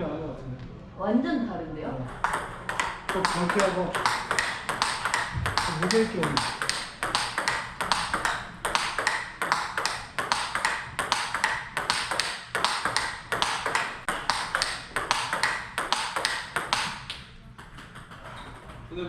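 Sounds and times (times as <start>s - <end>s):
ping pong ball clicks: 2.1s - 18.7s.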